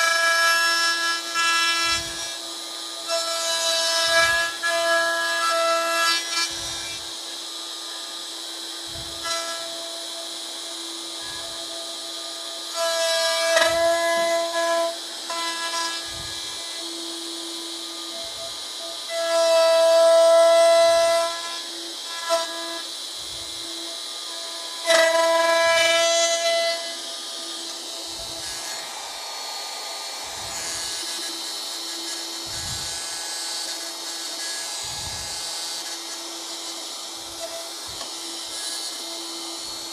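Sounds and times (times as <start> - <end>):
router whining: 0.0 - 39.9.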